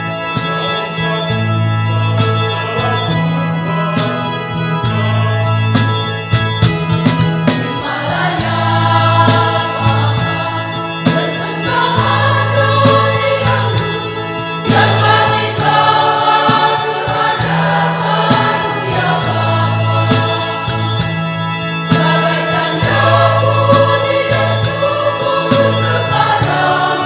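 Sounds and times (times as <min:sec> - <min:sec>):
choir singing a hymn: 0:00.0 - 0:27.0
low held bass accompaniment: 0:00.0 - 0:27.0.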